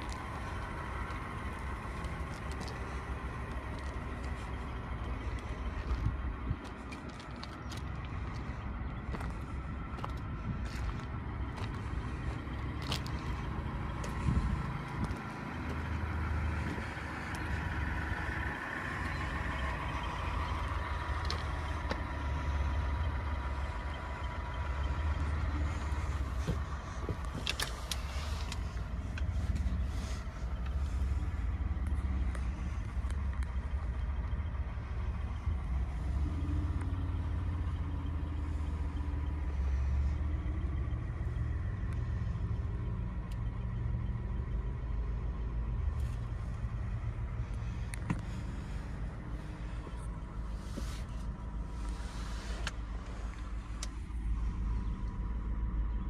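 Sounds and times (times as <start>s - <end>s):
pickup engine idling: 0.0s - 56.0s.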